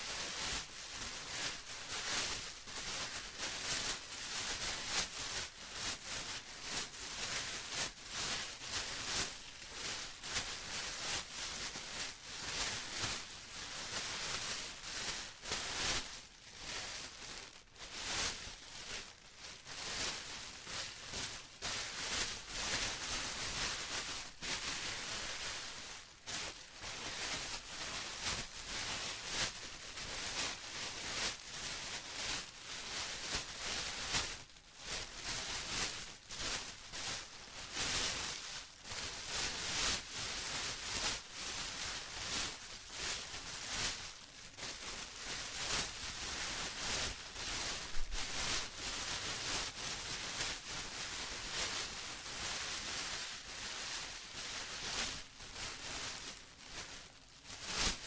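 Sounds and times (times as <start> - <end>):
plastic rustling and crinkling: 0.0 - 58.0.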